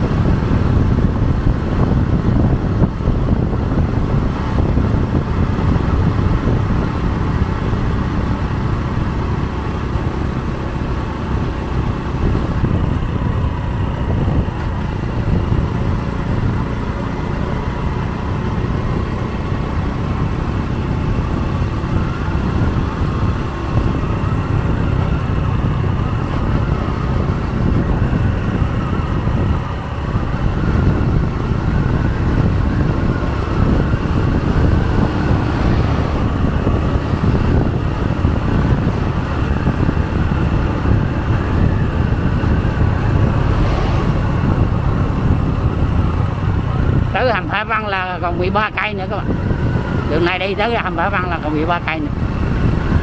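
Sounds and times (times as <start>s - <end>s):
motorbike engine running: 0.0s - 53.0s
road noise: 0.0s - 53.0s
wind rush: 0.0s - 53.0s.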